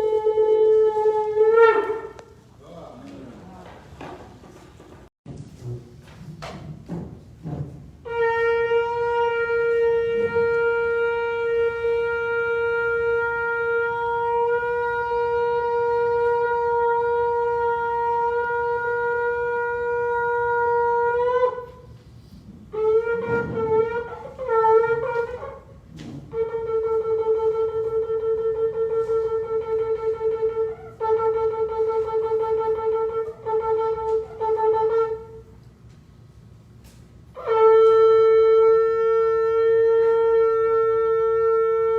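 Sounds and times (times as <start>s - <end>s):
shofar blowing: 0.0s - 2.6s, 8.0s - 41.9s.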